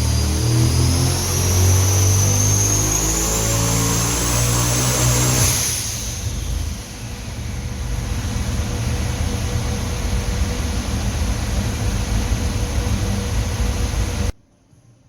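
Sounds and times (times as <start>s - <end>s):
engine roaring on a dyno: 0.0s - 14.4s.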